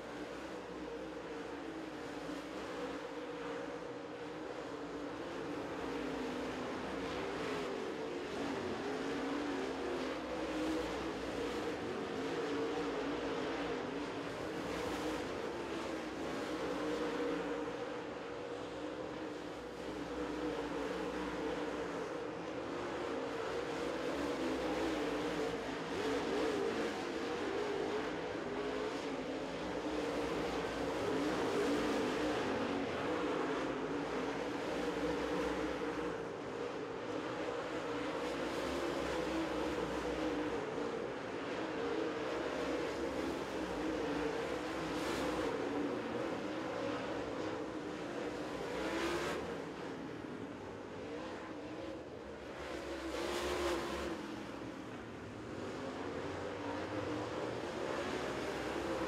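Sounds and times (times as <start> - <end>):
race car engine at speed: 0.1 - 59.0.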